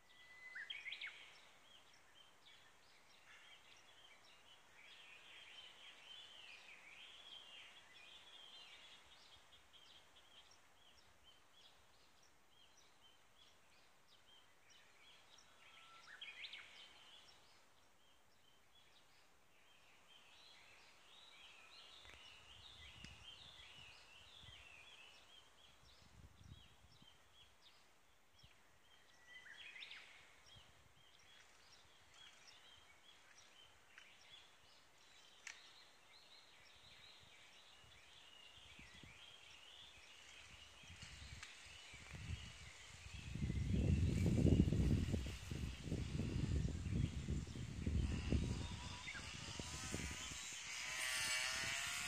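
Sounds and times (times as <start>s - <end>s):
faint outdoor background noise: 0.0s - 52.0s
small birds chirping: 0.0s - 52.0s.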